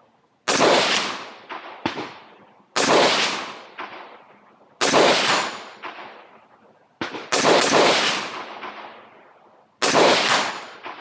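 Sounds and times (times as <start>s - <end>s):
rifle shots with echo: 0.5s - 11.0s.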